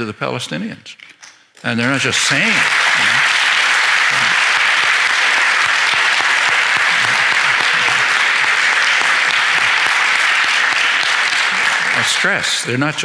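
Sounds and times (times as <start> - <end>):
audience applauding: 1.8 - 13.0.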